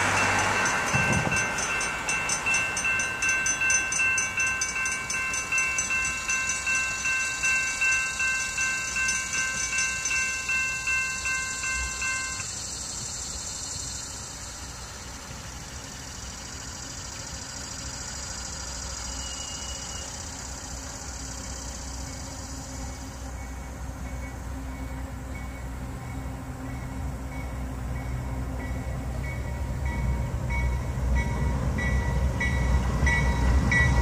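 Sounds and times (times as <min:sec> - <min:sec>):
railroad crossing bell ringing: 0:00.0 - 0:12.8, 0:18.4 - 0:34.0.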